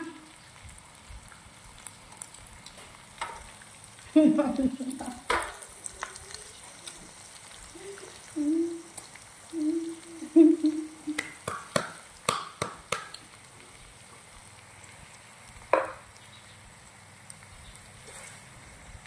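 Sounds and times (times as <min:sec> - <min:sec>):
insects sizzling in a pan: 0:00.0 - 0:19.0.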